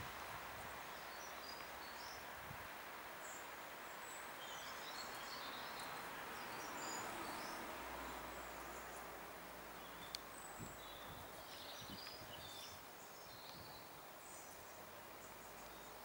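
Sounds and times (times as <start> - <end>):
steady outdoor hiss: 0.0 - 16.0
small birds chirping: 0.6 - 2.4, 3.1 - 16.0.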